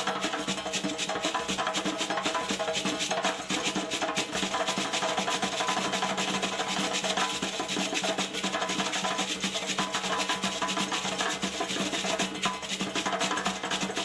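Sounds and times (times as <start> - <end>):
fast dense drumming: 0.0 - 14.0
sharp wood-block strikes: 0.0 - 14.0.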